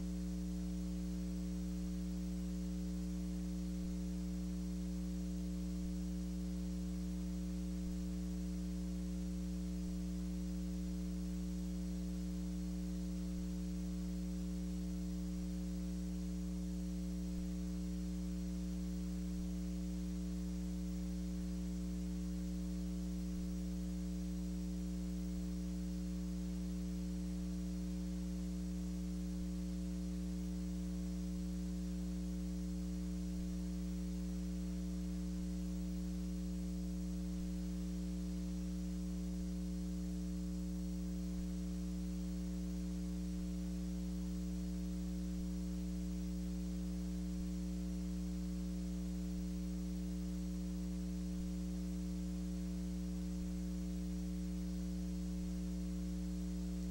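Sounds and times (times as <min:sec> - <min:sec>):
electrical mains hum: 0:00.0 - 0:56.9
faint hiss: 0:00.0 - 0:56.9.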